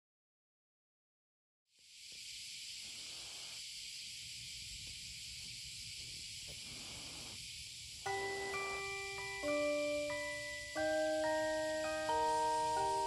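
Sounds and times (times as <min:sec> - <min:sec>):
room background hiss: 0:01.7 - 0:13.0.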